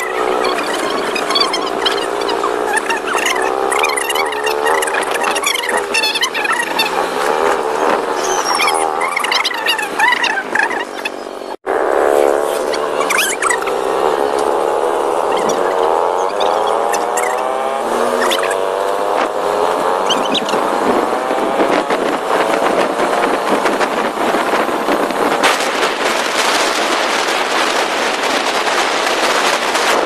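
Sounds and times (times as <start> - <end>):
motor scooter engine running: 0.0 - 30.0
wind rushing over microphone: 0.0 - 30.0.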